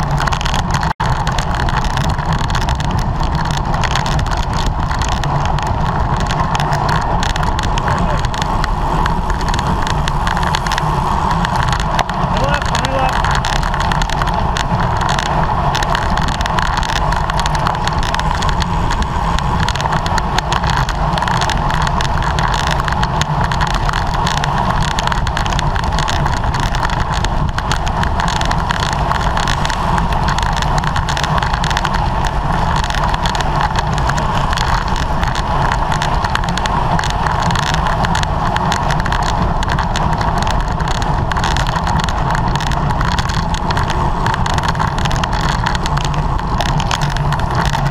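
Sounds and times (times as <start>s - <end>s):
wind and road noise: 0.0s - 47.9s
wind buffeting microphone: 0.0s - 47.9s.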